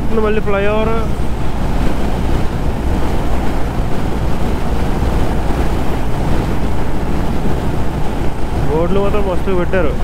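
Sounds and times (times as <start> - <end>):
wind rushing on microphone: 0.0 - 10.0.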